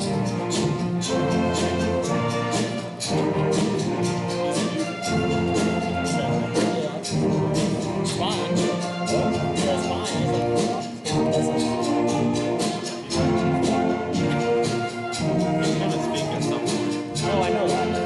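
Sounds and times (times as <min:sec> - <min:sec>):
percussion beat: 0:00.0 - 0:18.0
upbeat band music with brass: 0:00.0 - 0:18.0.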